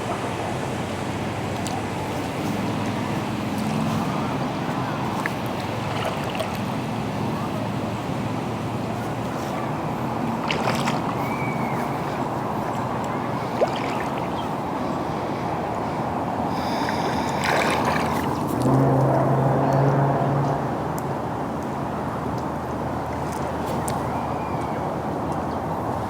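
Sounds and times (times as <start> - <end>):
water lapping at shore: 0.0 - 19.6, 22.9 - 24.2.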